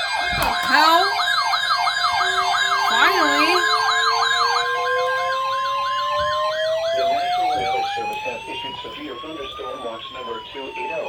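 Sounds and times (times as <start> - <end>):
siren climbing in pitch: 0.0 - 11.0
siren steady tone: 0.0 - 11.0
siren sweeping up and down: 0.0 - 11.0.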